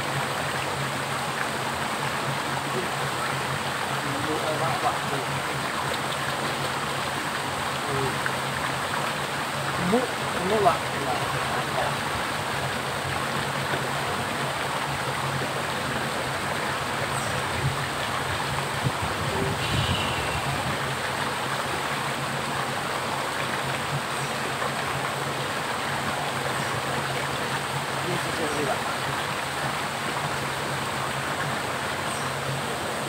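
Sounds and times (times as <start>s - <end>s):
rocky stream flowing: 0.0s - 33.0s.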